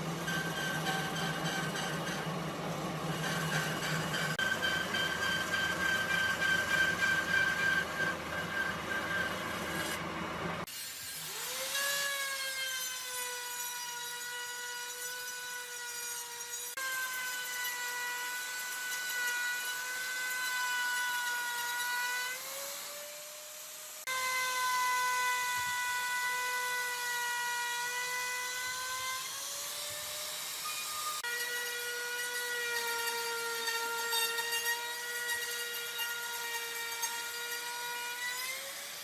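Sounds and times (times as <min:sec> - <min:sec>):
power tool cutting wood: 0:00.0 - 0:39.0.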